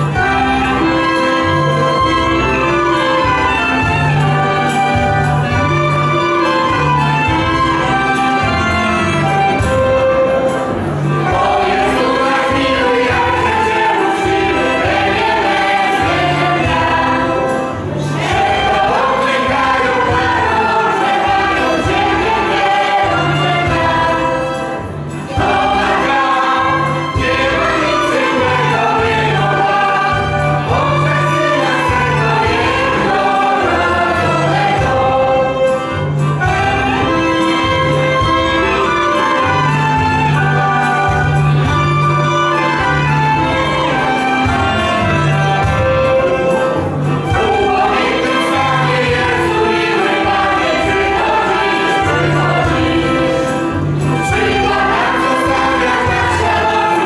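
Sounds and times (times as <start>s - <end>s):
violins: 0.0s - 57.0s
choir singing in unison: 9.2s - 57.0s.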